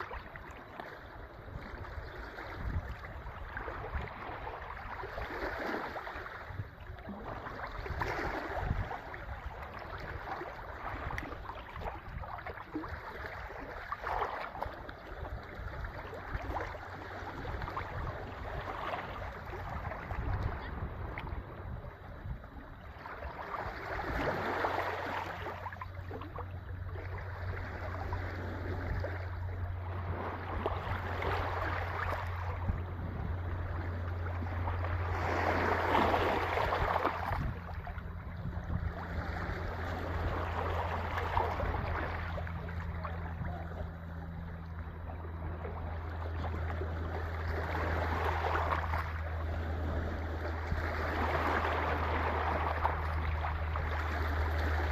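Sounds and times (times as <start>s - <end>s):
low hum: 0.0s - 54.9s
sea waves breaking: 0.0s - 54.9s.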